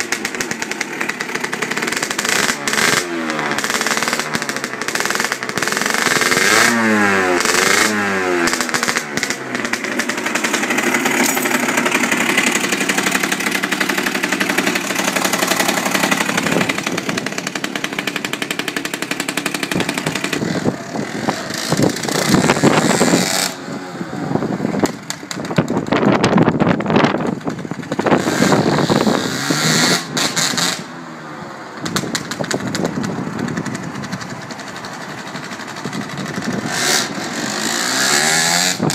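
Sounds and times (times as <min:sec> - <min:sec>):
two-stroke engine revving: 0:00.0 - 0:31.1, 0:31.8 - 0:38.9.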